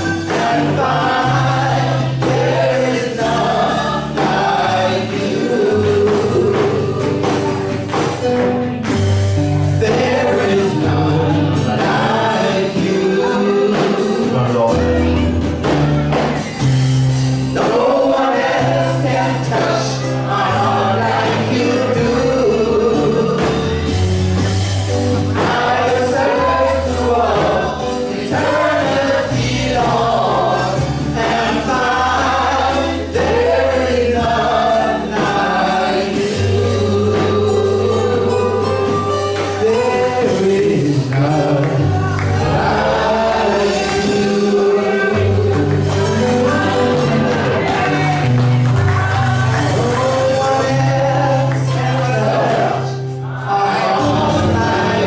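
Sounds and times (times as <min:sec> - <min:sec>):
men singing worship song: 0:00.0 - 0:15.1, 0:16.4 - 0:55.0
band accompaniment: 0:00.0 - 0:55.0
bass holding low notes: 0:00.0 - 0:55.0.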